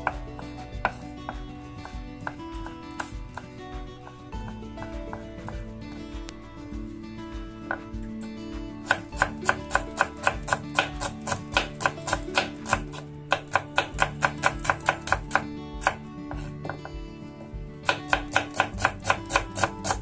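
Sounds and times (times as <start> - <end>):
knife chopping on wooden board: 0.0 - 5.7, 7.7 - 7.9, 8.8 - 17.0, 17.8 - 20.0
soft guitar music: 0.0 - 20.0.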